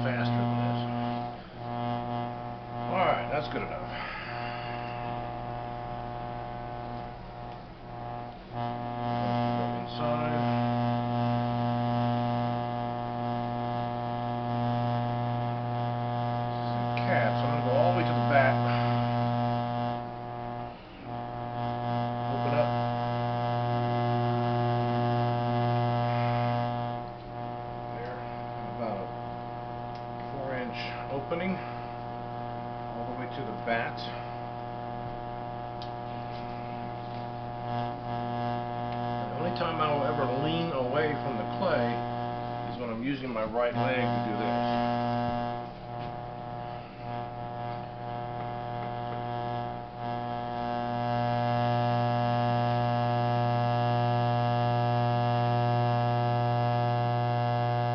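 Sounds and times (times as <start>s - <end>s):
potter's wheel motor humming: 0.0s - 57.9s.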